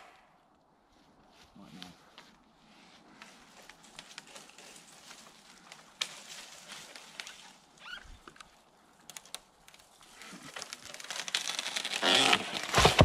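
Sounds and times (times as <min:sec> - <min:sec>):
twigs and leaves rustling: 0:00.8 - 0:13.0.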